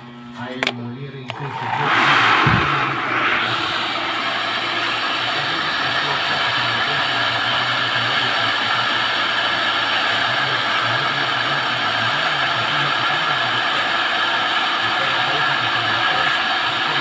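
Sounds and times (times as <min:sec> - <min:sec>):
electric pump motor hum: 0:01.2 - 0:17.0.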